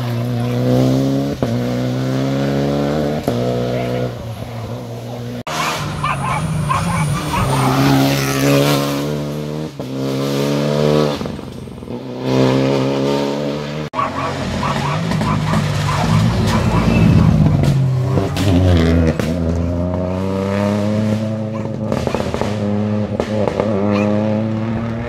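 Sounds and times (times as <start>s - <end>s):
rally car engines revving: 0.0s - 25.0s
tyre and road noise: 0.0s - 25.0s.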